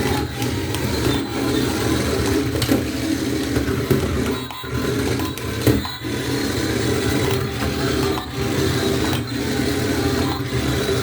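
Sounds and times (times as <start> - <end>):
toy car motors whirring: 0.0 - 11.0.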